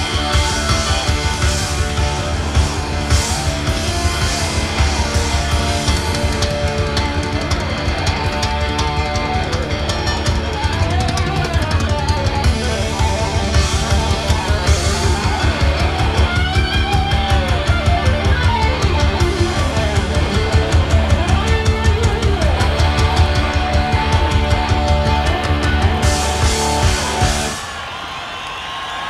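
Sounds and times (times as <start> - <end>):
rock band playing live: 0.0 - 27.8.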